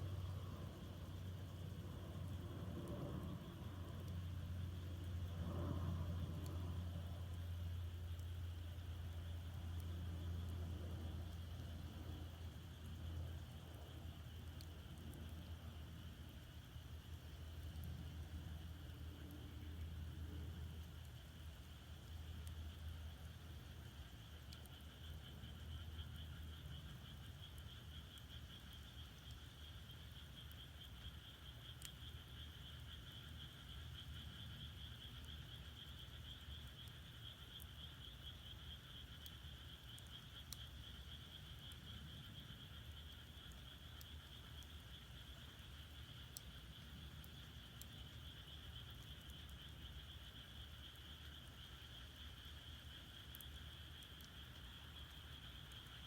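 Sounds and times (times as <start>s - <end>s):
frogs calling: 0.1s - 56.0s.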